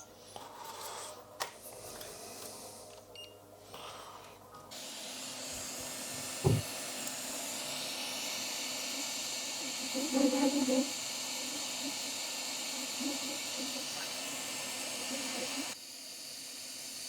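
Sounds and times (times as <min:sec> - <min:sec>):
hot-air blower hissing: 0:00.0 - 0:17.0.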